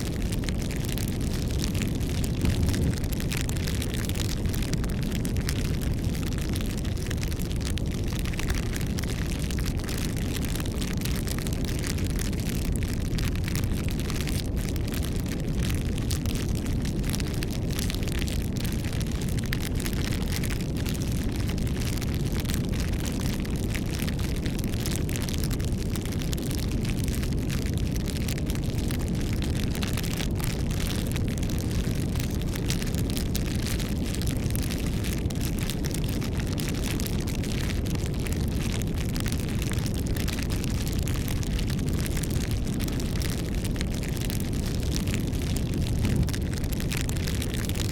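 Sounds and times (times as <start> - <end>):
rush of flames: 0.0 - 47.9
wood crackling and popping: 0.0 - 47.9.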